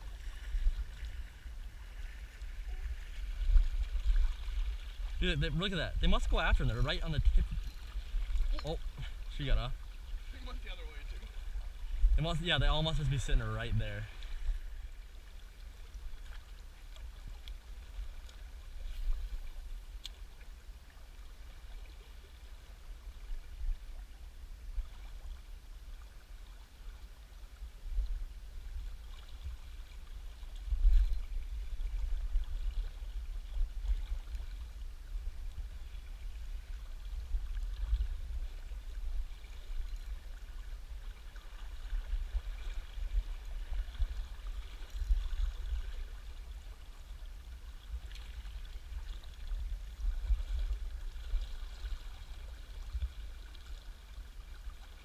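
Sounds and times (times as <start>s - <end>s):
low rumble on microphone: 0.0s - 55.0s
river water running: 0.0s - 55.0s.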